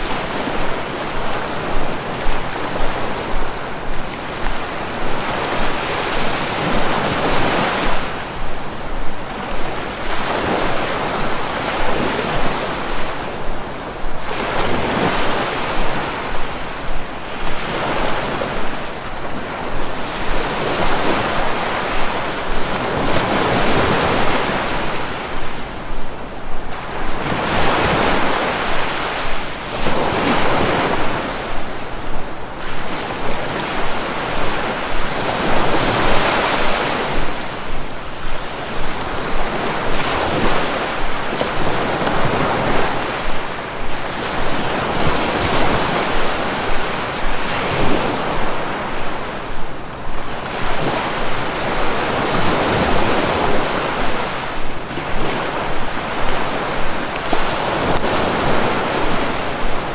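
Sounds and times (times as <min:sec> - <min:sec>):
sea waves breaking ashore: 0:00.0 - 0:59.9
wind on the microphone: 0:00.0 - 0:59.9.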